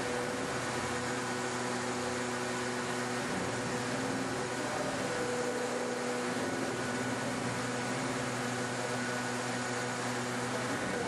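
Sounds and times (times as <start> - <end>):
machine hum with held tones: 0.0 - 11.0.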